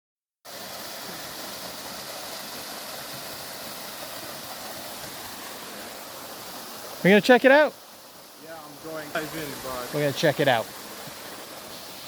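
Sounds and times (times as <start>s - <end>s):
small waterfall rushing: 0.5s - 12.0s.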